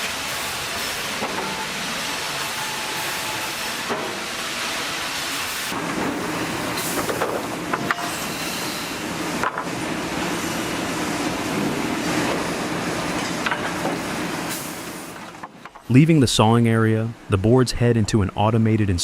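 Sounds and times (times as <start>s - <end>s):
sawmill machinery running: 0.0s - 15.5s.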